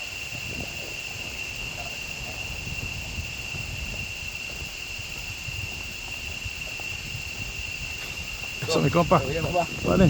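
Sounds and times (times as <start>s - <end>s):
footsteps on trail: 0.0s - 10.0s
high-pitched insect drone: 0.0s - 10.0s.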